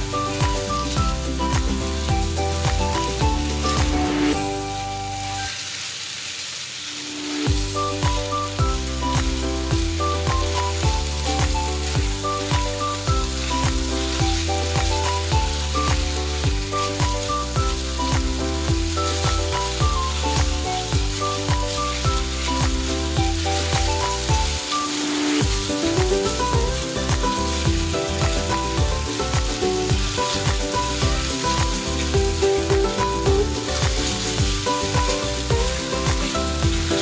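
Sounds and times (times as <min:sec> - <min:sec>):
background music with a beat: 0:00.0 - 0:05.5, 0:07.4 - 0:37.0
chicken sizzling in a pan: 0:00.0 - 0:37.0.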